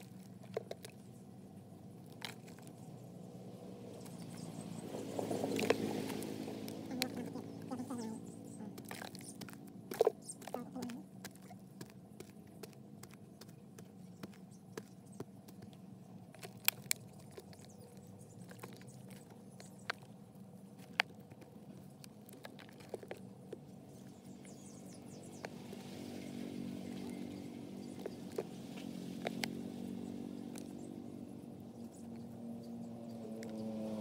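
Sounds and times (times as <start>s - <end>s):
soil and plastic crackling: 0.0s - 34.0s.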